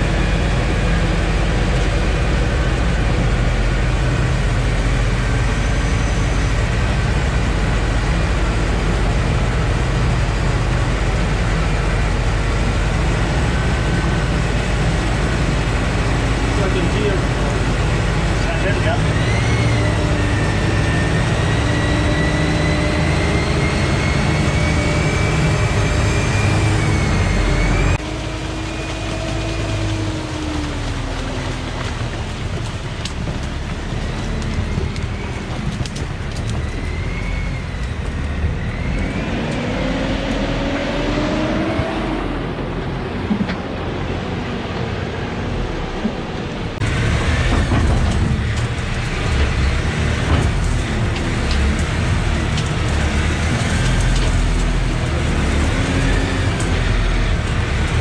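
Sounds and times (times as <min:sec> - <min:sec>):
vehicle engine revving: 0:00.0 - 0:58.0.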